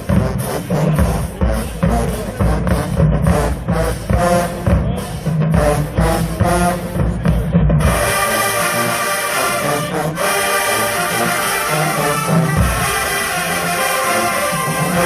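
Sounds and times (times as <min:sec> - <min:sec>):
brass band playing held chords: 0:00.0 - 0:15.0.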